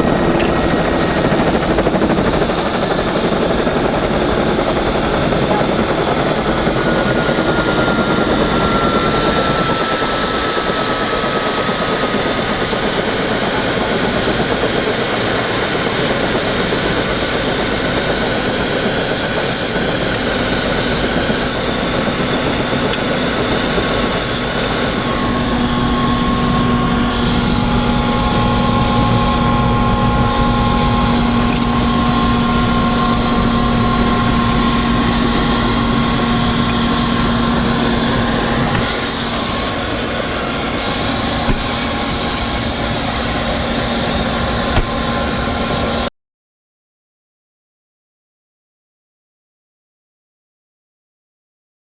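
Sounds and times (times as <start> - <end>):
helicopter engine and rotor: 0.0 - 46.1
high-pitched whine: 0.0 - 46.1.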